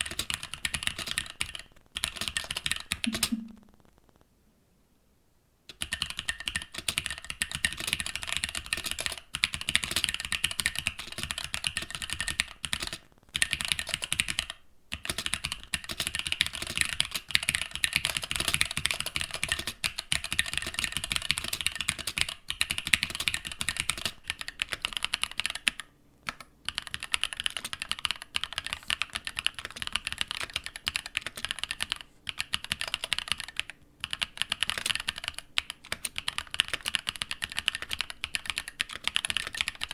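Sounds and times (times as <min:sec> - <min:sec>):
typing on mechanical keyboard: 0:00.0 - 0:03.5, 0:05.7 - 0:39.9.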